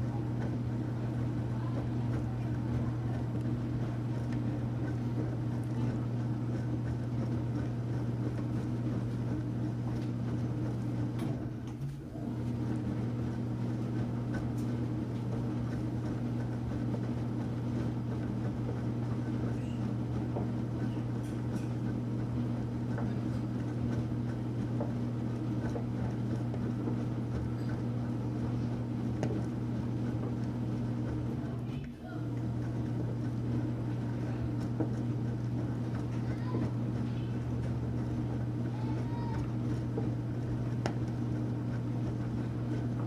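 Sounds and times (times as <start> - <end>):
washing machine motor hum: 0.0 - 43.0.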